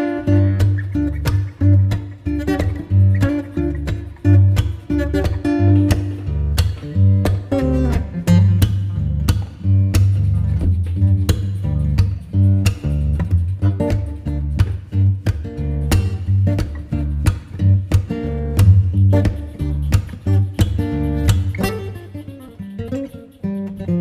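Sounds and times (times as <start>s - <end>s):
acoustic guitar: 0.0s - 24.0s
steady bass line: 0.2s - 22.0s.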